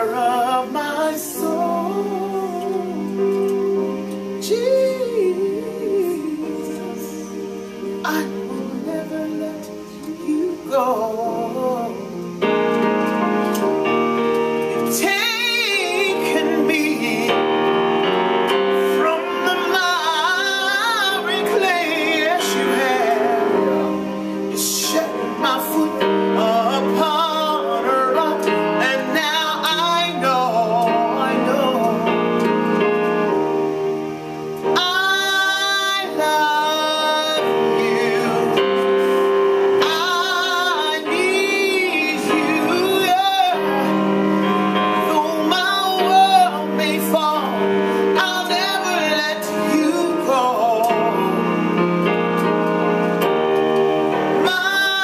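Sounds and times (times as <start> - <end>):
woman singing: 0.0 - 3.4, 4.4 - 12.3, 14.8 - 17.7, 18.8 - 32.4, 34.6 - 38.9, 39.8 - 51.7, 54.3 - 55.0
keyboard chords: 0.0 - 55.0.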